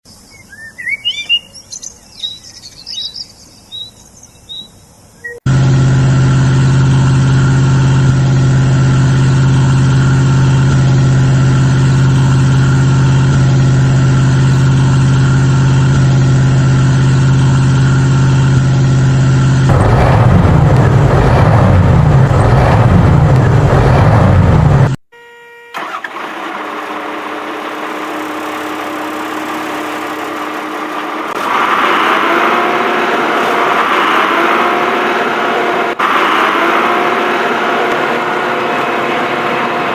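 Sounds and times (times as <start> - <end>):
quieter engine: 0.1 - 25.0, 25.7 - 39.9
rising whine: 5.3 - 39.9
heavy vehicle engine: 5.4 - 25.0, 25.8 - 39.9.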